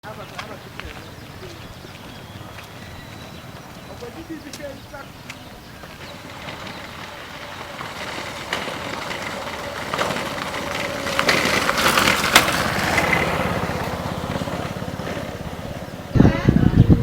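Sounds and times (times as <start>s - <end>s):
small engine running: 0.2s - 17.0s.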